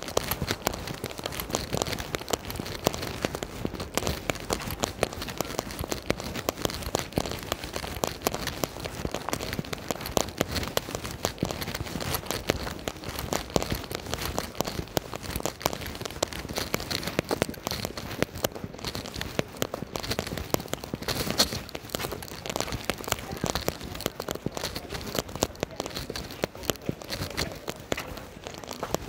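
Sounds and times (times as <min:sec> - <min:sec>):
rain drops pattering: 0:00.0 - 0:29.0.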